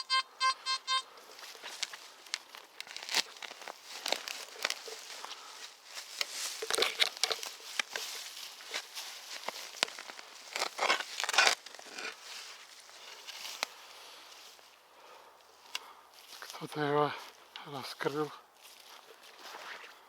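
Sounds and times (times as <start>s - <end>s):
dry leaves and twigs crunching: 1.2s - 20.0s.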